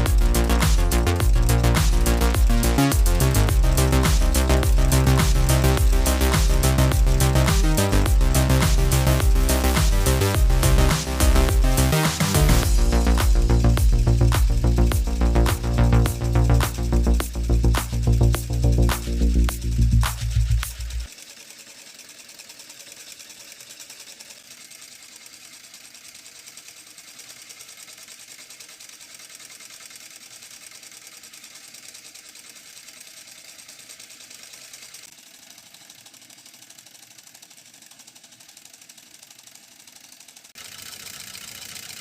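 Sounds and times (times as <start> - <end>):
small engine mechanical clatter: 0.0 - 42.0.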